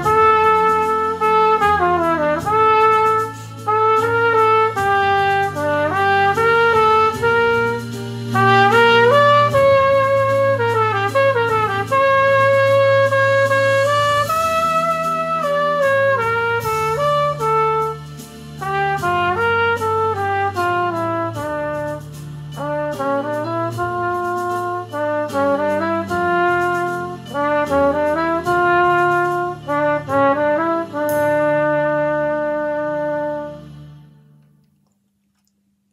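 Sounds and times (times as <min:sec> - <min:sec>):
trumpet playing a melody: 0:00.0 - 0:34.3.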